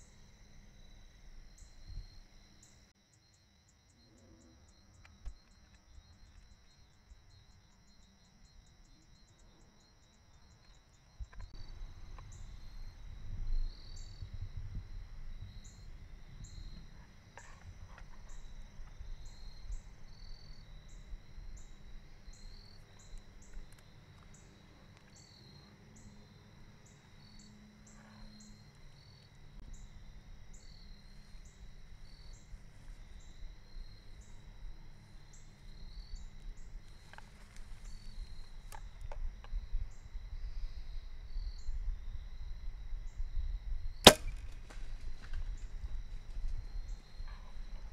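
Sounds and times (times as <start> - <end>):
high insect chirp: 0.0 - 47.9
insect trill: 0.0 - 47.9.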